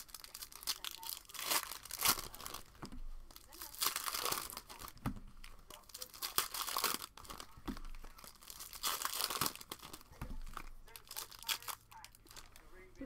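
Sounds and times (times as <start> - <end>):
foil wrapper tearing and crinkling: 0.0 - 12.6.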